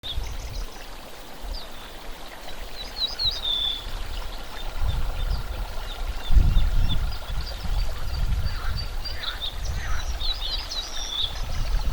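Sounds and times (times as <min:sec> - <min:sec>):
birds giving thin high calls: 0:00.0 - 0:11.9.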